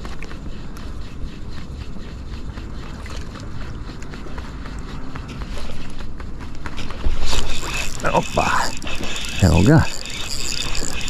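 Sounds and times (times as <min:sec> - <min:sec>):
small irregular ticks: 0:00.0 - 0:11.0.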